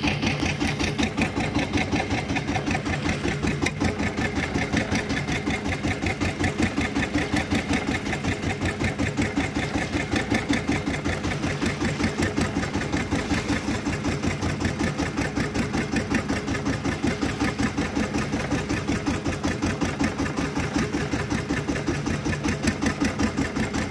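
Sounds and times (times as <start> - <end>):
boat engine running: 0.0 - 23.9.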